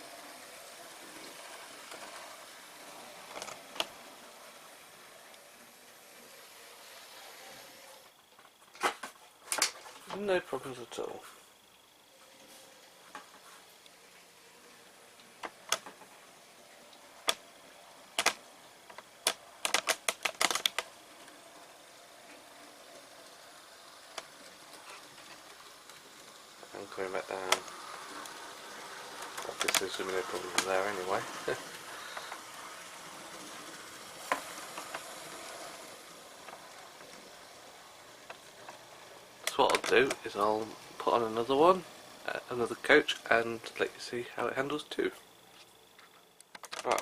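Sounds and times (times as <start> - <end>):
model train wheels clicking: 0.0 - 8.2, 12.7 - 47.0.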